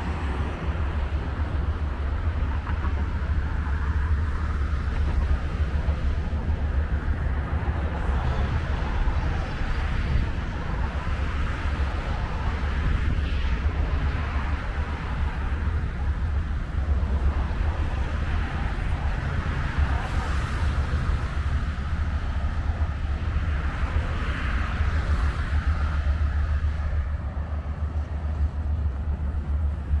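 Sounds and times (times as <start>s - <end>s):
passing traffic rumble and hiss: 0.0s - 30.0s.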